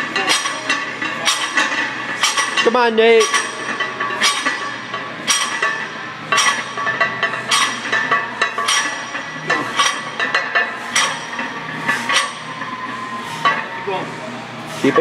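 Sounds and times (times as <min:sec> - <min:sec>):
weight plates clinking on barbell: 0:00.0 - 0:12.8.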